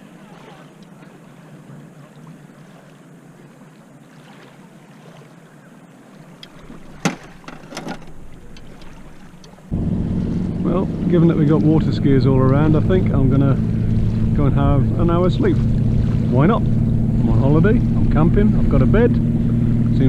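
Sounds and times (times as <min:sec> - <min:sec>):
distant motorboat engine: 0:00.0 - 0:20.0.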